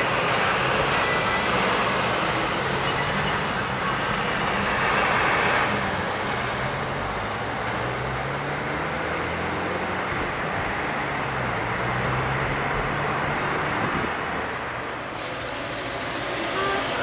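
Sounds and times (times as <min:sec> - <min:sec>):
car engine hum: 0:00.0 - 0:17.0
road rush: 0:00.0 - 0:17.0.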